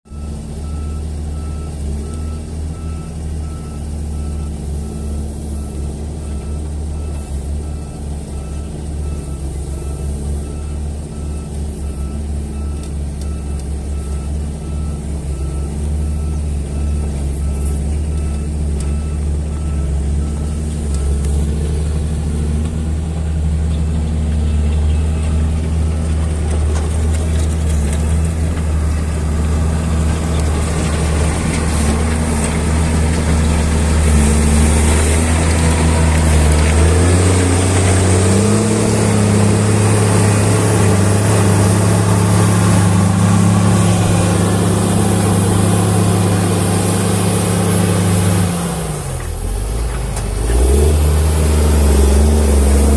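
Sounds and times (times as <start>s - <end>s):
engine running steadily: 0.1s - 52.9s.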